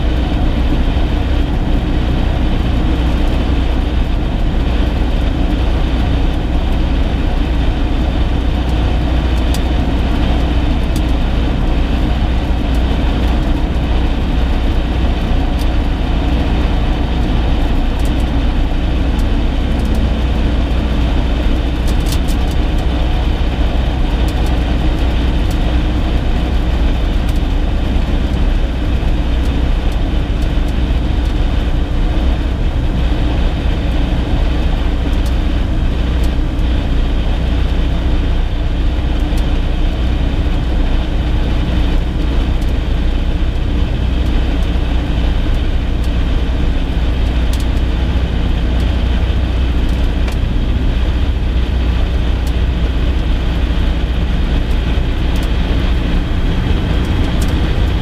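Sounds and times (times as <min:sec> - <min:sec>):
propeller engine droning: 0:00.0 - 0:58.0.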